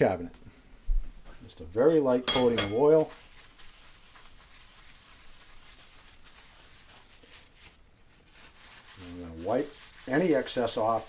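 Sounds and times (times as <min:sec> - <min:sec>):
low steady hiss: 0:00.0 - 0:11.0
rag rubbing a skillet: 0:01.8 - 0:11.0.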